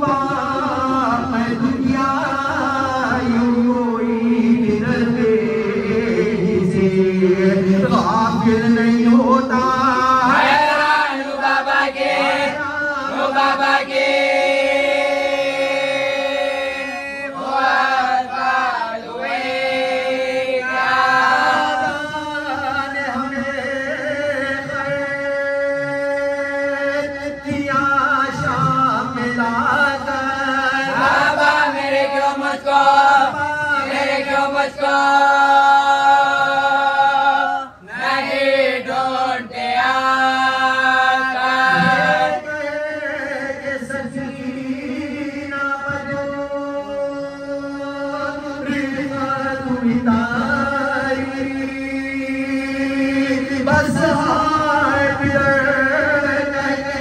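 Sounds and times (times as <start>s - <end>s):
person singing a mournful lament: 0.0s - 57.0s.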